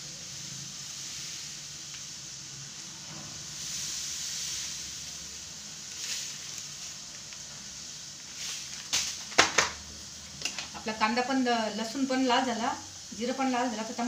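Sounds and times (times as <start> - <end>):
seeds sizzling in hot oil: 0.0 - 14.0.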